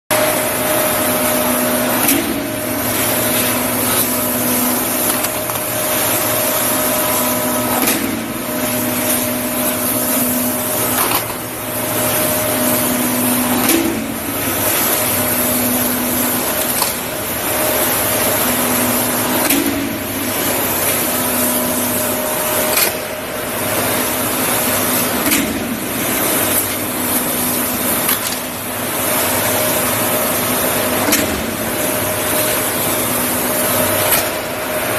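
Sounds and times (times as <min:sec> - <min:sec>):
machine whirring and humming: 0:00.1 - 0:34.9.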